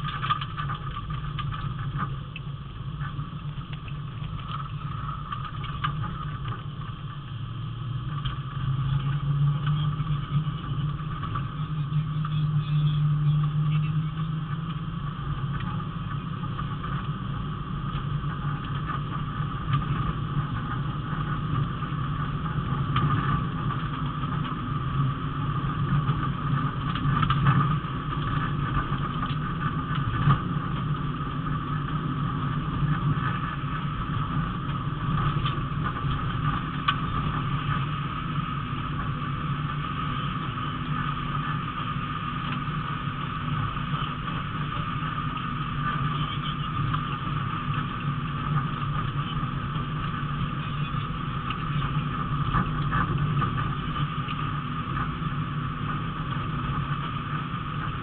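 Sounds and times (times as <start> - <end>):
rally car engine running hard: 0.0 - 58.0
tyre and road noise: 0.0 - 58.0.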